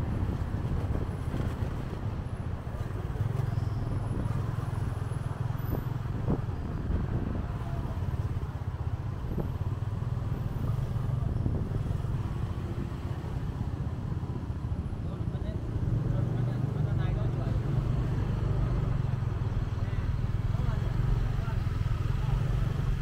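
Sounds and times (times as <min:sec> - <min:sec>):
road and traffic noise: 0:00.0 - 0:23.0.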